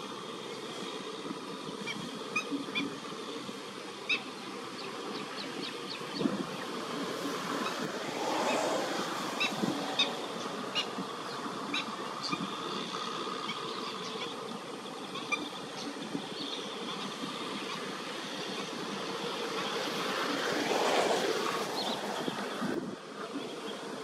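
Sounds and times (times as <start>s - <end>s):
faint steady drone: 0.0s - 24.0s
rushing background noise: 0.0s - 24.0s.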